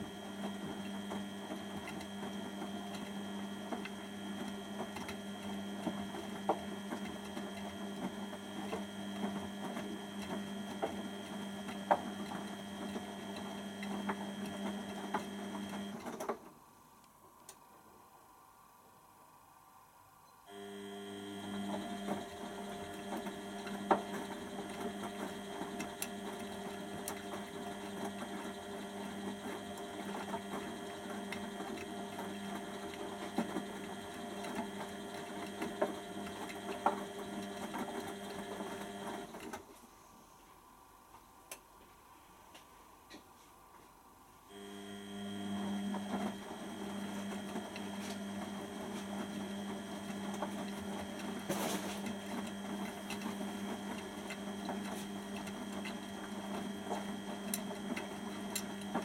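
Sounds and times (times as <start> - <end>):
washing machine motor humming: 0.0 - 16.1, 20.5 - 39.5, 44.5 - 59.0.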